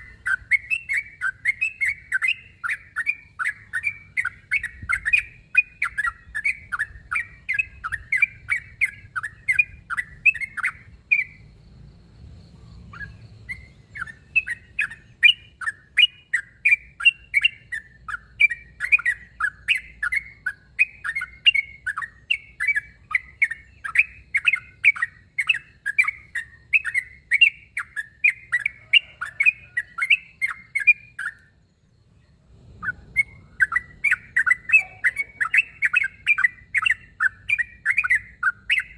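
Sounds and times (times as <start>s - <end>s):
bird singing bubbly chirps: 0.0s - 11.6s, 12.7s - 38.9s.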